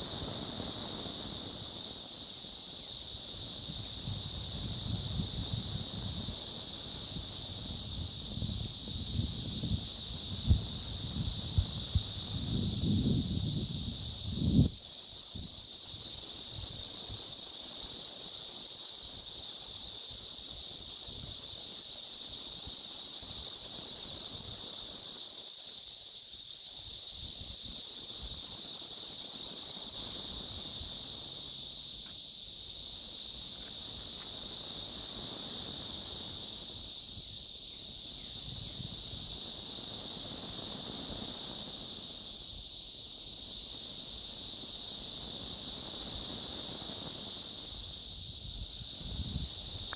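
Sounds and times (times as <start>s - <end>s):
cicadas droning: 0.0s - 49.9s.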